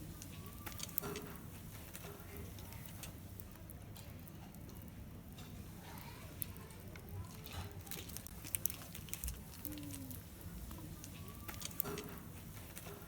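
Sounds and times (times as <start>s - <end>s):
fire popping and snapping: 0.0s - 13.0s
wood fire crackling: 0.0s - 13.0s.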